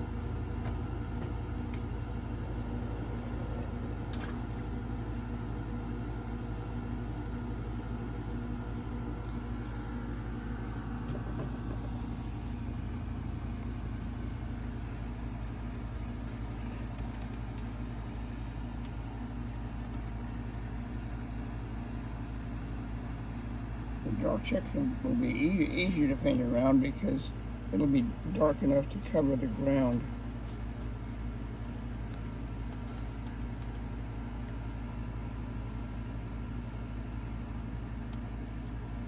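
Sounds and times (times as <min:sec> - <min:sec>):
low mechanical drone: 0:00.0 - 0:39.0.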